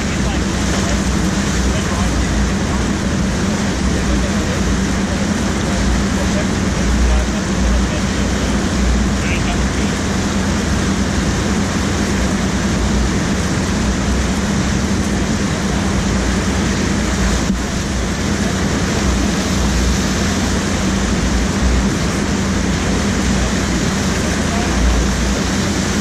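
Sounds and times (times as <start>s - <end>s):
churning water rushing: 0.0s - 26.0s
steady low hum: 0.0s - 26.0s.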